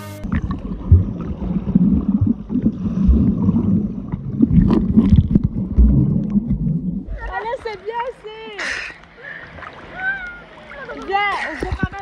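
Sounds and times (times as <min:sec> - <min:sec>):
underwater water churning and bubbling: 0:00.2 - 0:07.6, 0:08.7 - 0:12.0.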